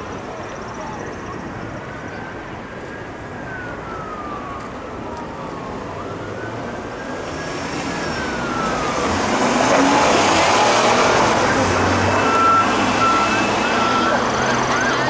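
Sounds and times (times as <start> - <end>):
street traffic: 0.0 - 15.0
police siren wailing: 1.6 - 15.0.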